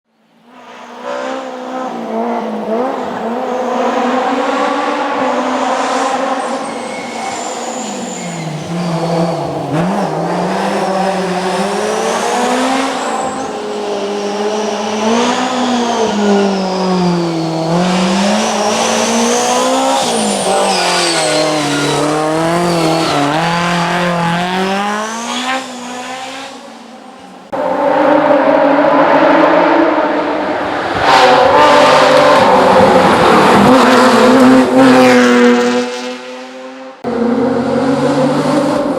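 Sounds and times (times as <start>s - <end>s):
rally car engine revving: 0.5s - 38.9s
loud engine: 1.0s - 38.9s.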